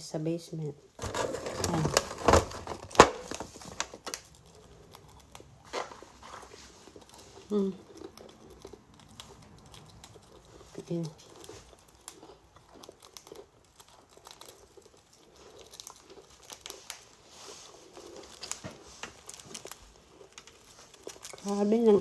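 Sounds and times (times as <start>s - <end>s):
crunching of snack being eaten: 1.0s - 22.0s
snack packet crinkling: 1.0s - 22.0s.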